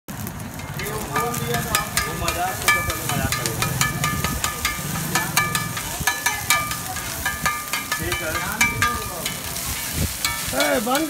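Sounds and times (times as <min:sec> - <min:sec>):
food sizzling on griddle: 0:00.1 - 0:11.0
metal spatula clanging on griddle: 0:00.5 - 0:11.0.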